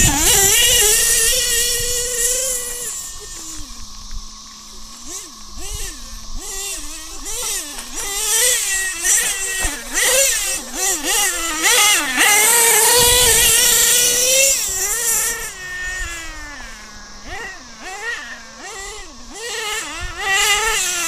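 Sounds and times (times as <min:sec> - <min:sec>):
nitro engine revving: 0:00.0 - 0:21.0.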